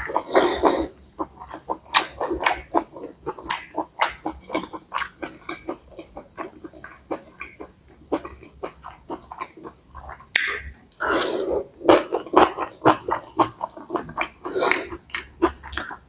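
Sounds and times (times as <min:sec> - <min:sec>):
close-miked chewing: 0:00.0 - 0:16.0.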